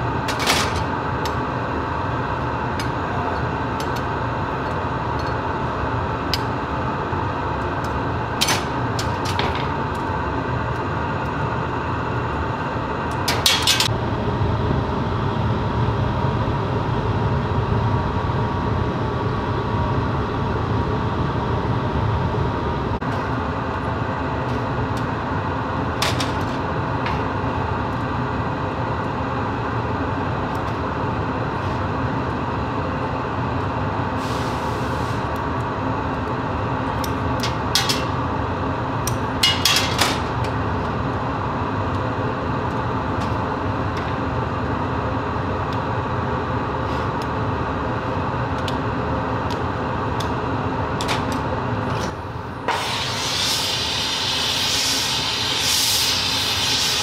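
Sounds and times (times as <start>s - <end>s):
gas burner and blower rushing: 0.0s - 57.0s.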